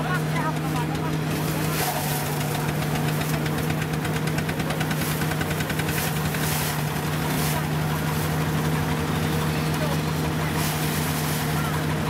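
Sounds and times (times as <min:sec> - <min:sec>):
engine knocking steadily: 0:00.0 - 0:12.0
threshing machinery running: 0:00.0 - 0:12.0.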